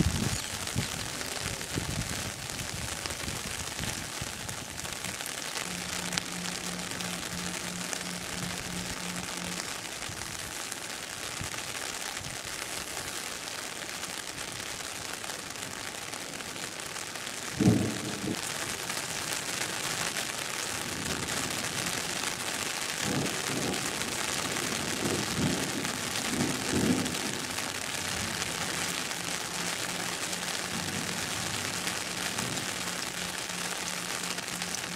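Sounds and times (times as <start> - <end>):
rain hissing: 0.0 - 34.9.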